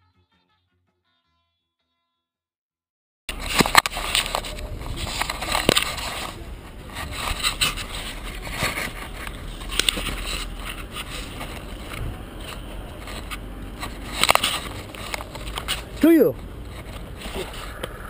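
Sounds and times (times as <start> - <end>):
fingers rubbing on camera case: 3.3 - 17.8
scratchy rustle: 3.3 - 17.8.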